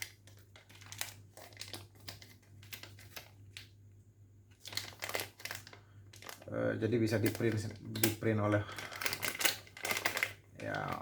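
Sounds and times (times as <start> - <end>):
plastic packaging crinkling: 0.0 - 3.8, 4.4 - 11.0.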